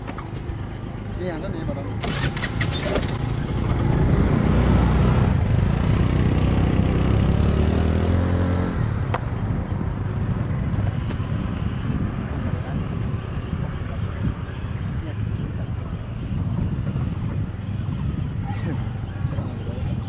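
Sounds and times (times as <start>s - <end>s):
engine drone with pitched hum: 0.0s - 20.0s.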